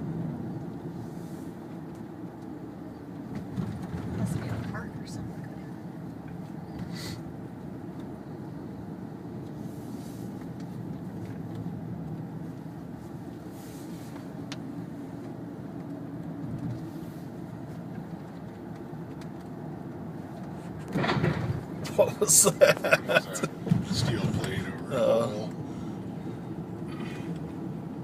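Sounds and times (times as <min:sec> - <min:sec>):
car road and engine noise: 0:00.0 - 0:28.0.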